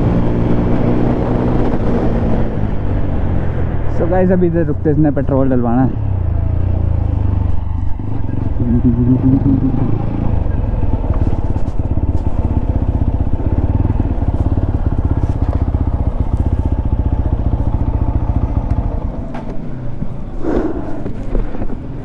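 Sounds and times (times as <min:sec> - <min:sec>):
motorcycle engine running at low revs: 0:00.0 - 0:04.0, 0:05.9 - 0:22.0.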